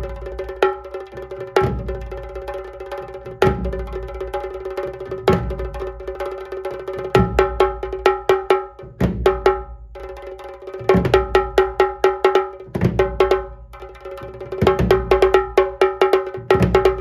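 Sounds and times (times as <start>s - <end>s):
deep drum beat: 0.0s - 17.0s.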